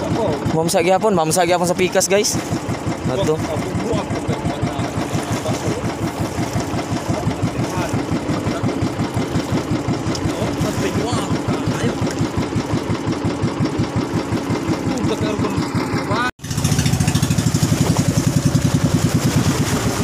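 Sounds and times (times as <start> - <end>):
small boat engine putter: 0.0 - 20.0.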